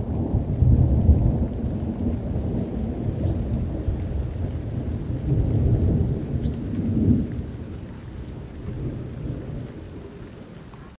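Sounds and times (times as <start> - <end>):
thunder rumbling: 0.0 - 10.7.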